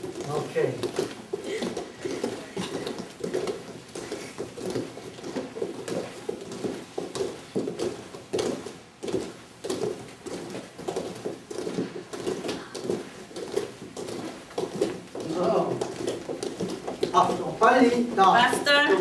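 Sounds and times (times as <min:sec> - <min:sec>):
bare footsteps on foam mats: 0:00.0 - 0:19.0.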